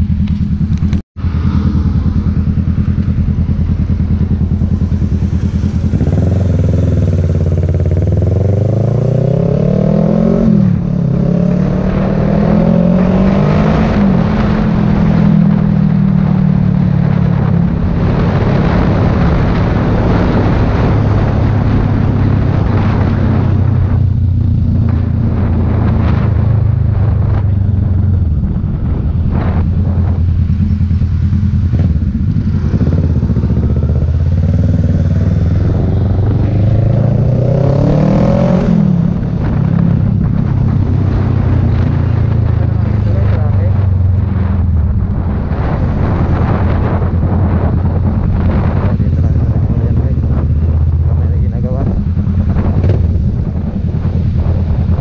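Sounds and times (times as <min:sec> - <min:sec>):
motorcycle engine: 0:00.0 - 0:55.0
wind noise: 0:00.0 - 0:55.0.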